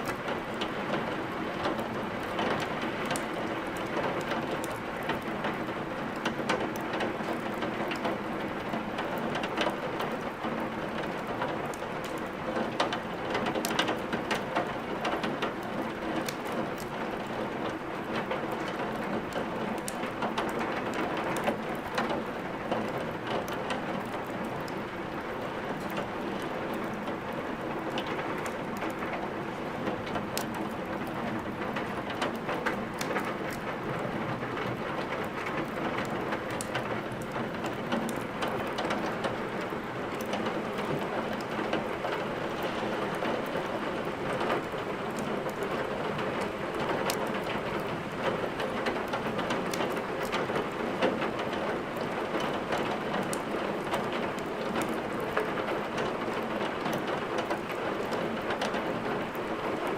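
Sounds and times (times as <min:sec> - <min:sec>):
wood fire crackling: 0:00.0 - 0:00.8, 0:09.1 - 0:15.6, 0:16.2 - 0:59.9.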